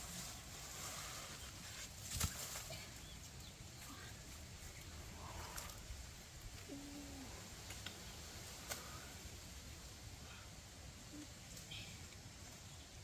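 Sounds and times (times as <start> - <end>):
leaves and branches rustling: 0.0 - 13.0.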